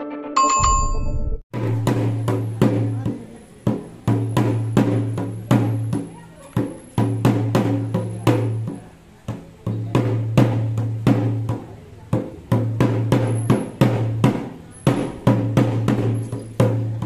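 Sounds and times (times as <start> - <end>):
drums beaten with ringing tone: 0.4 - 17.0.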